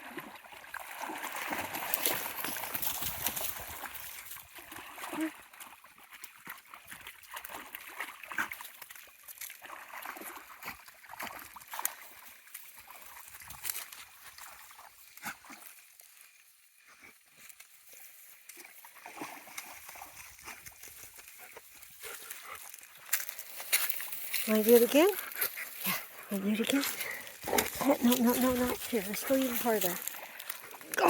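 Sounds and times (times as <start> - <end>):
dogs splashing through water: 0.0 - 31.0.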